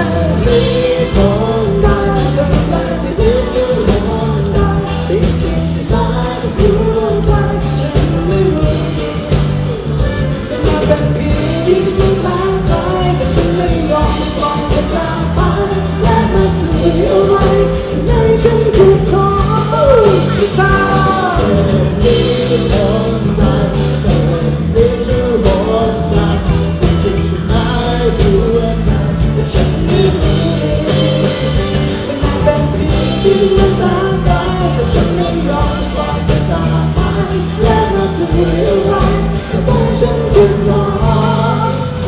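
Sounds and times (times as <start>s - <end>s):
live pop-rock band: 0.0s - 42.0s
person singing: 0.0s - 42.0s.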